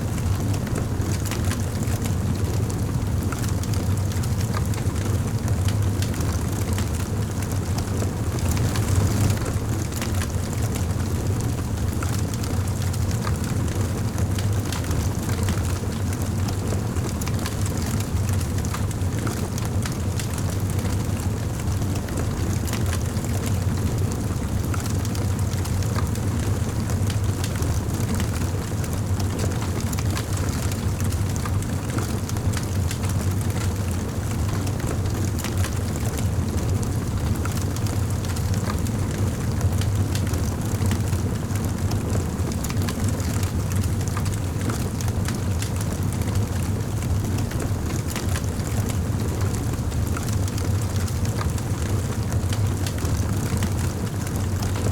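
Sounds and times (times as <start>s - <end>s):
wood fire crackling and roaring: 0.0s - 54.9s.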